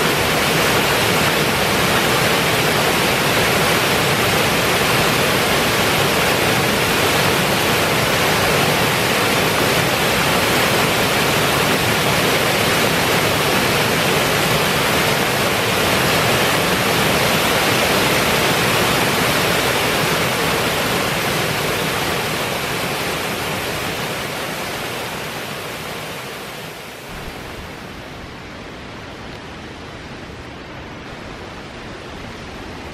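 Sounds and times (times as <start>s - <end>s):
water rushing over weir: 0.0s - 32.9s.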